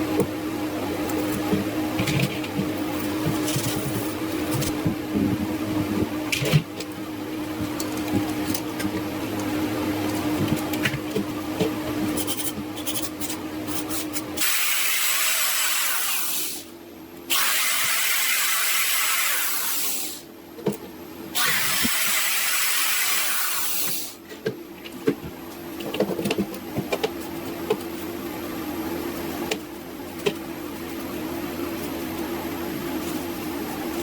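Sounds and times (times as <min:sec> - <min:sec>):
small machine humming: 0:00.0 - 0:34.0.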